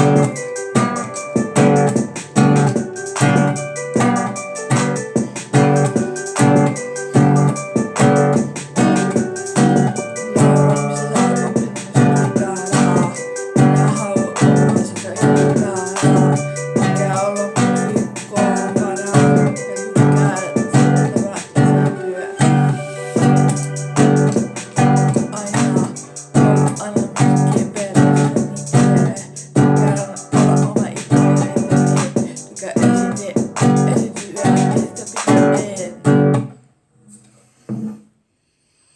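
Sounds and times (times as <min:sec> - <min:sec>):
instrumental music with steady beat: 0:00.0 - 0:36.5.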